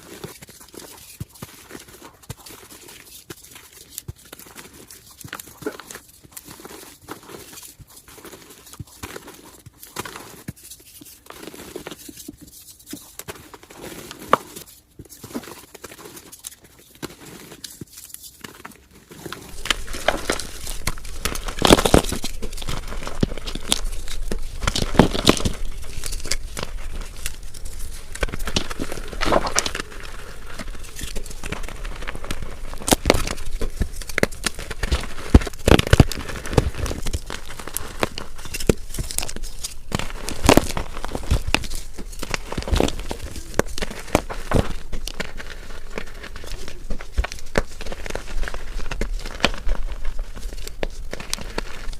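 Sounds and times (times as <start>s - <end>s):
chalk crunching and crumbling: 0.0s - 51.9s.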